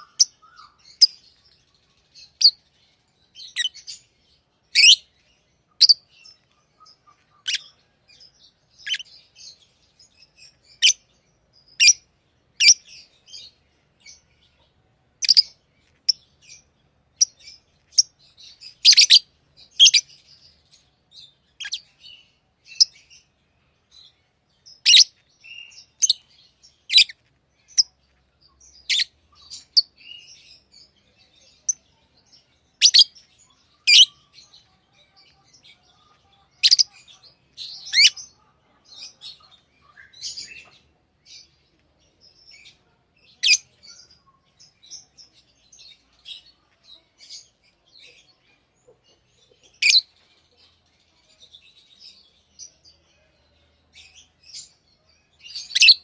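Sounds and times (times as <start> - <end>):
lovebirds chirping: 0.0 - 56.0
soft bird twittering: 0.0 - 56.0.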